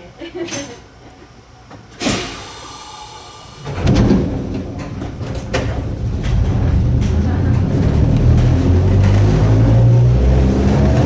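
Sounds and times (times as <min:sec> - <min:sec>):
train sliding doors shutting: 0:01.8 - 0:11.0
train motors rumbling: 0:02.1 - 0:11.0.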